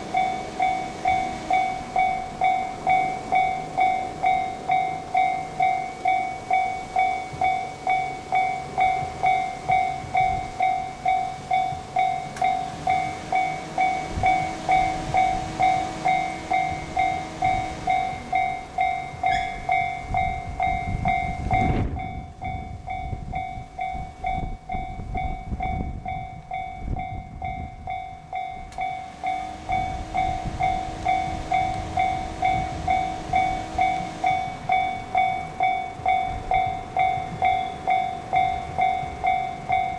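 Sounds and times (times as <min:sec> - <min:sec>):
diesel train rumbling: 0:00.0 - 0:39.9
level crossing bell ringing: 0:00.0 - 0:39.9.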